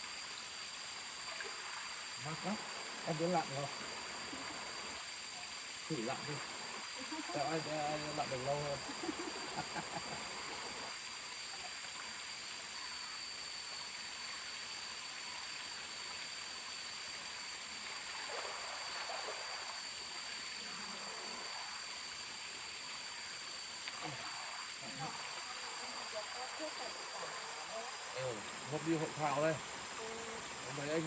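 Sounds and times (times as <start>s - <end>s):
high-pitched insect drone: 0.0s - 31.0s
stream flowing: 0.0s - 31.0s.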